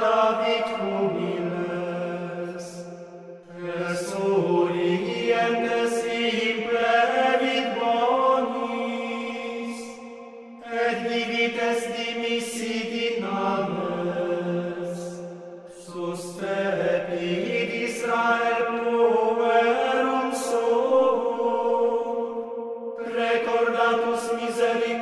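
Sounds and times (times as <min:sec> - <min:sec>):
voices singing chant: 0:00.0 - 0:25.0.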